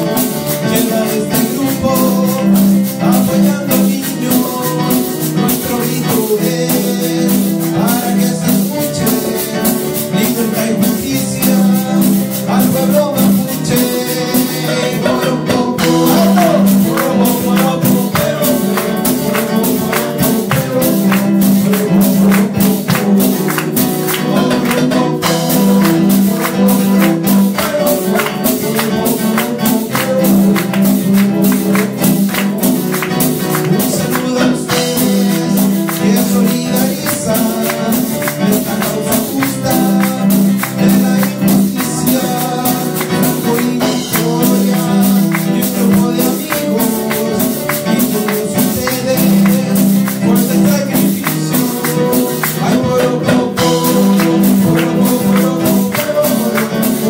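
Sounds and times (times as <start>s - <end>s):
acoustic guitar: 0.0s - 57.0s
hand percussion: 0.0s - 57.0s
keyboard: 0.0s - 57.0s
man singing: 0.0s - 57.0s.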